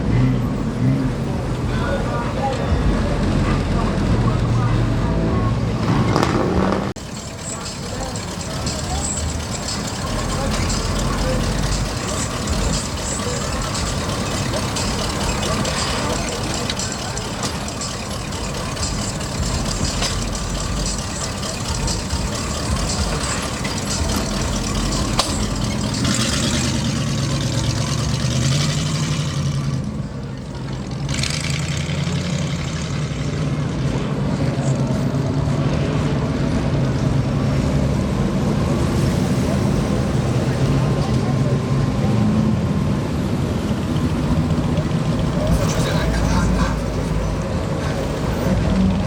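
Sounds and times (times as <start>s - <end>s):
car engines running: 0.0s - 49.0s
deep engine hum: 0.0s - 49.0s
noisy street background: 0.0s - 49.0s.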